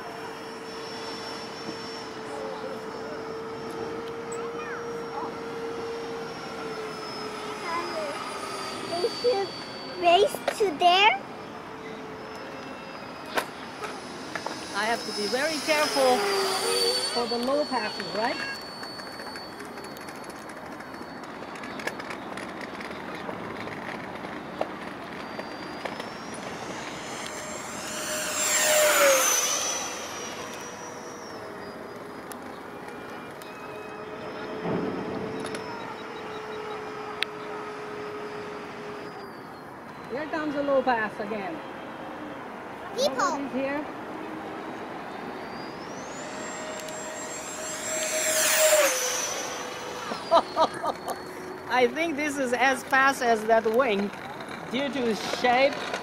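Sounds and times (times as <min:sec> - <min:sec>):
electric ducted fan whining: 0:00.0 - 0:56.0.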